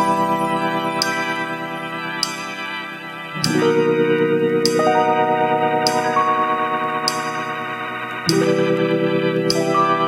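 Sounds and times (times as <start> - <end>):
sustained keyboard chords: 0.0 - 10.0.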